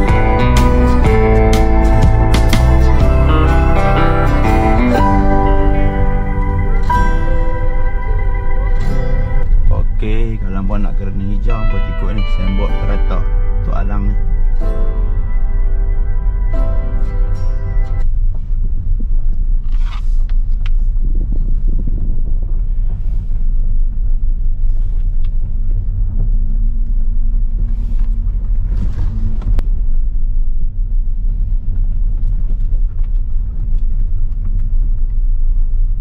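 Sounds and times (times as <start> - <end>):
car engine and tyres rumbling: 0.0 - 36.0.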